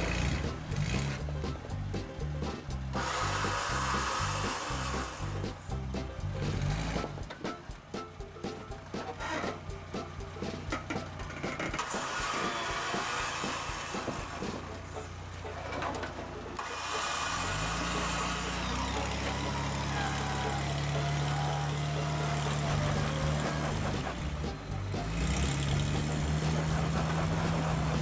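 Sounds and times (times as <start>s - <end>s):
truck engine crawling: 0.0s - 28.0s.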